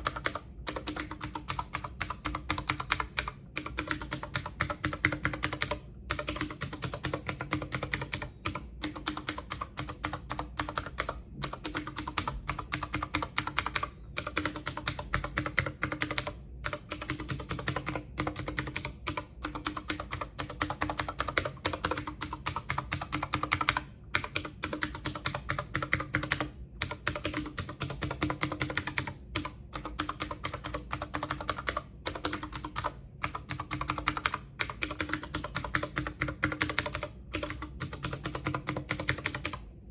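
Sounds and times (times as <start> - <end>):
typing on a computer keyboard: 0.0 - 39.8.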